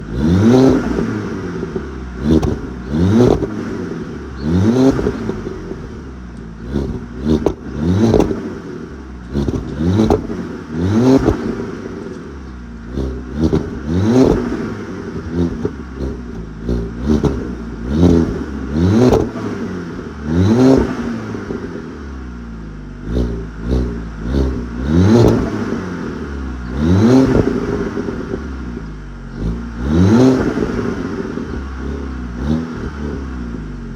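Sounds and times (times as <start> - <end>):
exhaust popping and crackling: 0.0 - 22.0, 22.6 - 33.9
car engine revving: 0.0 - 33.9.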